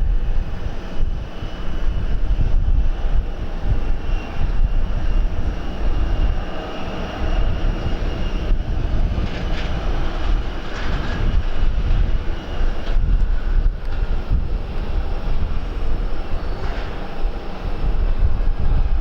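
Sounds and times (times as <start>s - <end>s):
aircraft engines whining: 0.0s - 19.0s
wind buffeting microphone: 0.0s - 19.0s.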